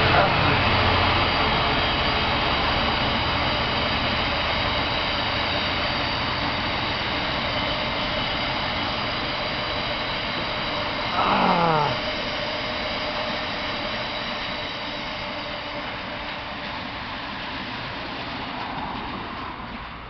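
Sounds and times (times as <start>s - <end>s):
locomotive droning: 0.0s - 16.6s
wagons rumbling on rails: 0.0s - 20.0s.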